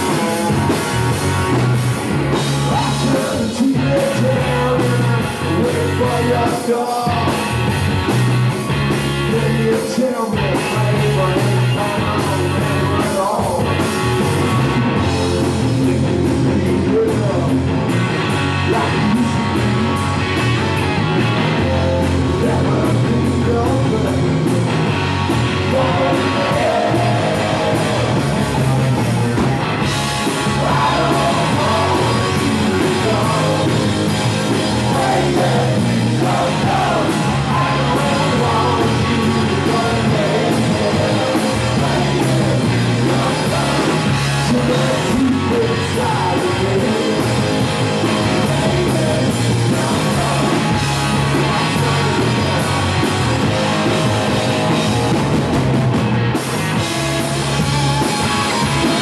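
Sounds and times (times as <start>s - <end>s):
man singing: 0.0s - 1.2s, 2.3s - 7.7s, 9.2s - 13.9s, 15.2s - 17.9s, 18.6s - 20.0s, 21.4s - 24.8s, 25.6s - 29.6s, 30.2s - 54.8s
rock band playing live: 0.0s - 59.0s.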